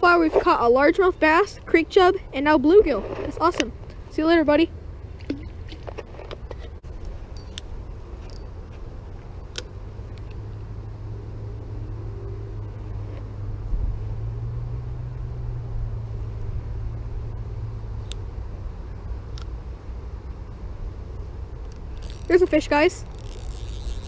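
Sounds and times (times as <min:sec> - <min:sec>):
motor vehicle rumble: 0:00.0 - 0:24.0.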